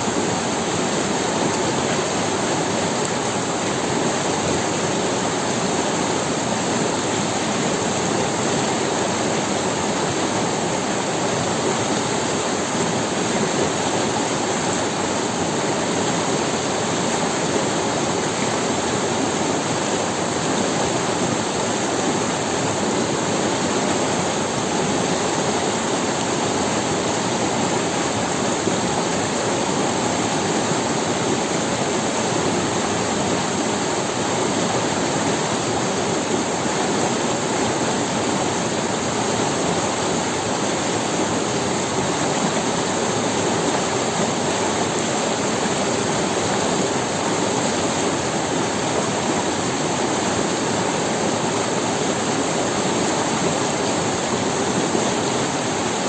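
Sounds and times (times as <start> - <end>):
river water rushing over stones: 0.0 - 56.0.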